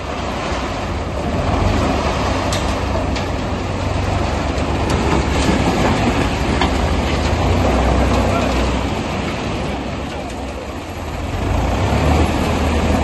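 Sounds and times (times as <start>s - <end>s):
tractor engine rumbling: 0.0s - 13.0s
machinery rattling: 0.7s - 13.0s.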